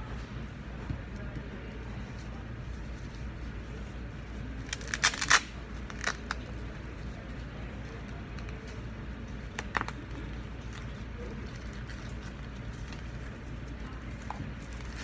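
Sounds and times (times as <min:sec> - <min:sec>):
clicks and rustles of handling: 0:00.2 - 0:15.0.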